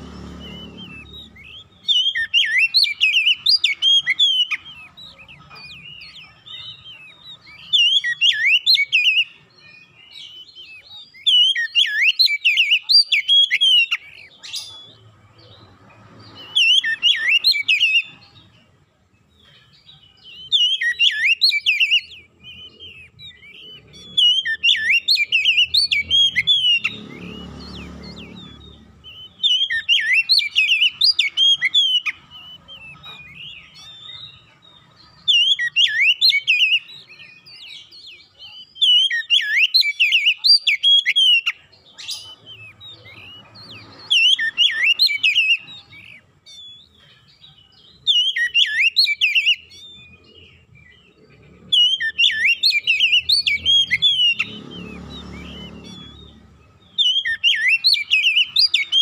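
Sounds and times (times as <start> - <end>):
bird singing whistled phrases: 0.0 - 18.6, 19.3 - 59.0.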